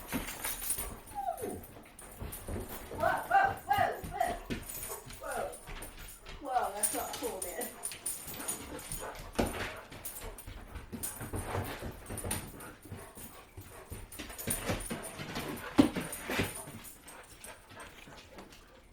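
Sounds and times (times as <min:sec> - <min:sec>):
dogs playing taps and scuffles: 0:00.0 - 0:18.9.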